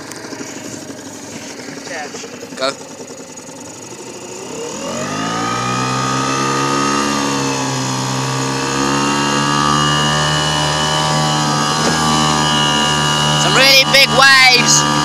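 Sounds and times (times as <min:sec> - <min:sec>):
outboard motor revving: 0:00.0 - 0:15.0.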